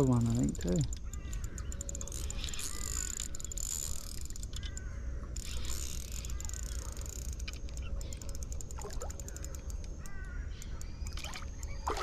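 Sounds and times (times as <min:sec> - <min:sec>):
fishing reel clicking: 0:00.0 - 0:11.8
bird calling: 0:00.2 - 0:12.0.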